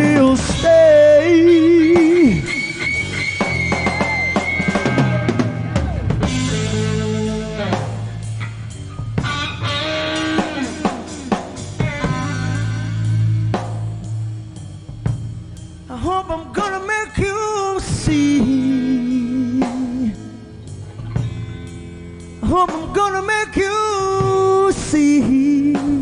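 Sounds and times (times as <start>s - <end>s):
lead guitar bending notes: 0.0s - 15.9s, 18.1s - 24.6s
bass guitar: 0.0s - 26.0s
drum kit: 0.0s - 26.0s.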